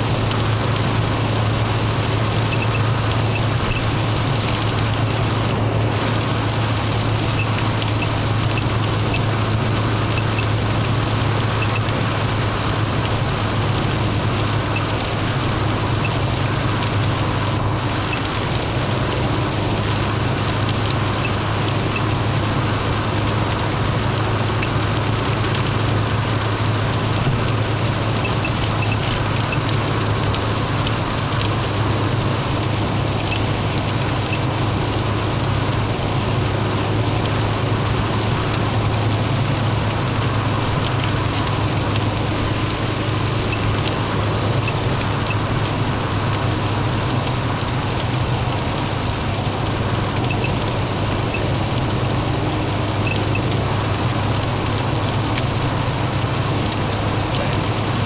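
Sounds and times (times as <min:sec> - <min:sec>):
engine and tyres droning: 0:00.0 - 0:58.0.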